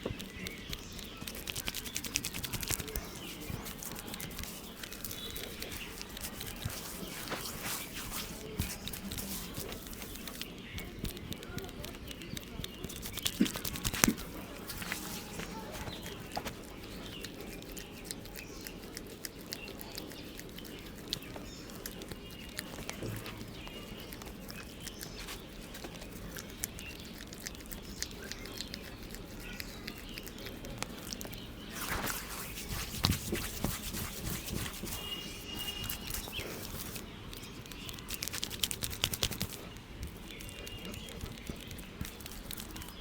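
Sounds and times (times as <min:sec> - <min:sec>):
bird chirps: 0:00.0 - 0:43.0.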